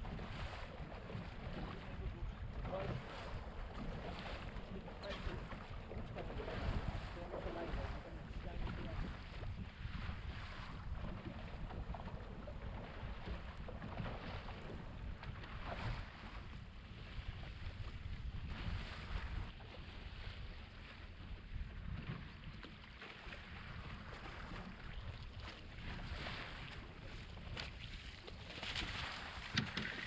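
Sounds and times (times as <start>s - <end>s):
boat engine rumbling: 0.0s - 22.7s, 23.4s - 30.0s.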